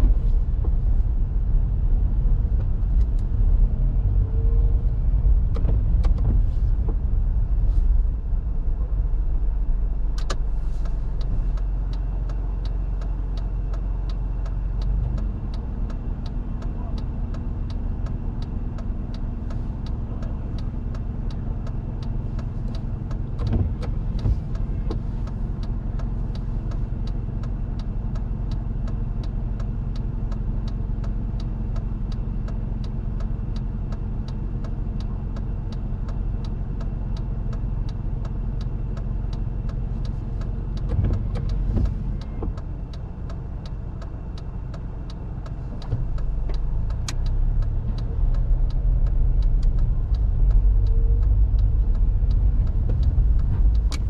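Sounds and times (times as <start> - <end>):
light regular ticking: 9.4 - 54.0.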